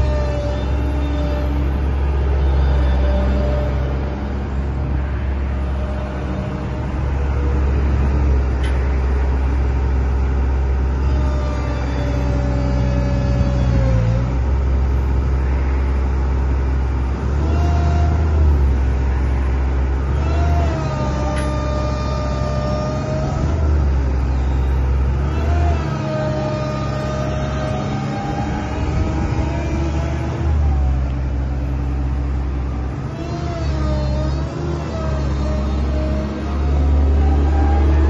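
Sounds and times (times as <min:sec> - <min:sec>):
hydraulic whine: 0:00.0 - 0:09.8, 0:10.5 - 0:16.1, 0:17.0 - 0:38.0
diesel engine running: 0:00.0 - 0:38.0.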